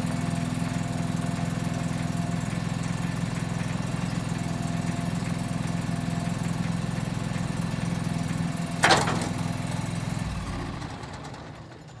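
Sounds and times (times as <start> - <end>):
lawn tractor engine idling: 0.0 - 12.0.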